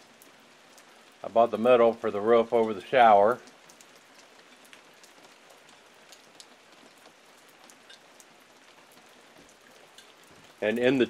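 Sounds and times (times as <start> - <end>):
faint steady rain: 0.0 - 11.0.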